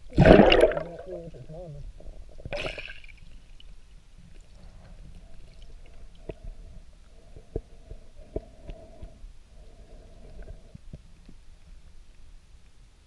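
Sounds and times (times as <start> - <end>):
underwater rumble of moving water: 0.0 - 12.6
faint hum: 0.0 - 13.0.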